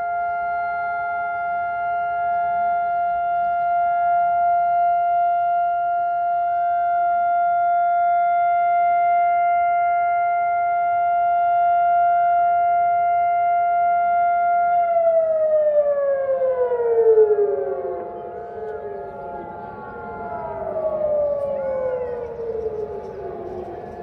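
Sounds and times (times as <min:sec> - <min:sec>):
air-raid siren steady tone: 0:00.0 - 0:24.0.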